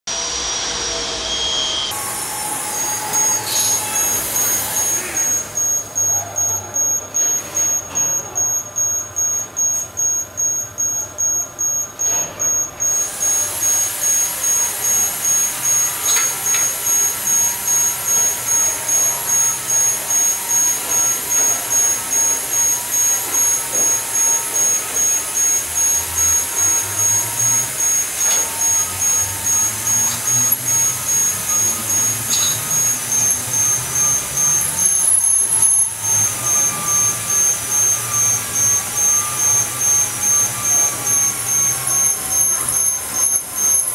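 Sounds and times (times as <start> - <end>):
electric motors whining: 0.1 - 43.9
parking lift motors pulsing: 0.1 - 43.9.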